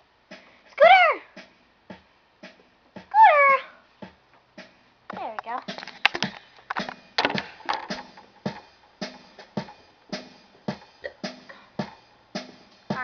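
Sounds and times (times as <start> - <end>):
electronic drum beat: 0.0 - 3.2, 4.0 - 13.0.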